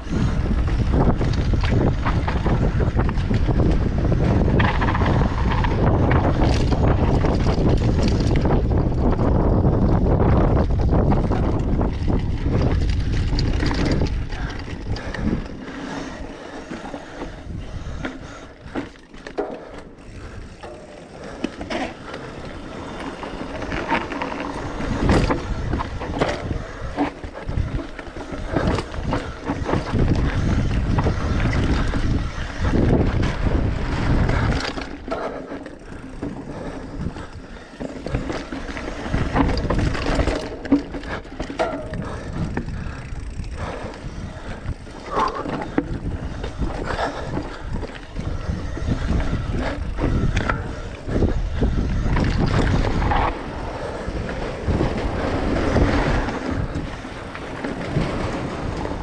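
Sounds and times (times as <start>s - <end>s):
wind buffeting microphone: 0.0s - 19.0s, 19.6s - 59.0s
bike rattling over rocks: 0.0s - 59.0s.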